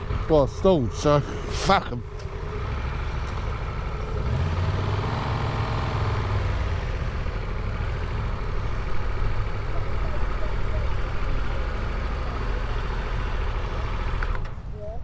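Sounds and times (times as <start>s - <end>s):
vehicle engine revving: 0.0s - 14.4s
road noise rumble: 0.0s - 15.0s.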